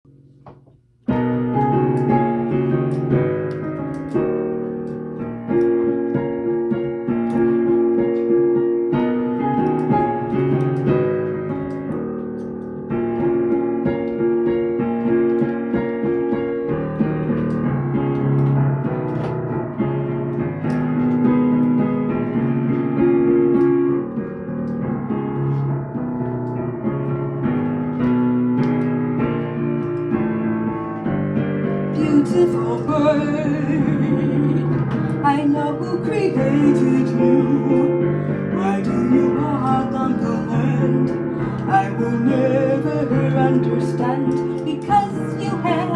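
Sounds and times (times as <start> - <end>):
piano playing chords and melody: 0.0 - 45.9.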